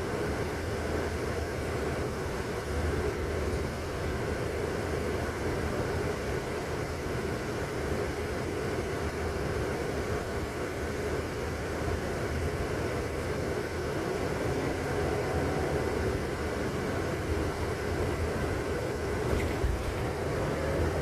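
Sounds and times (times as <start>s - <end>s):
moving vehicle rumbling: 0.0s - 21.0s.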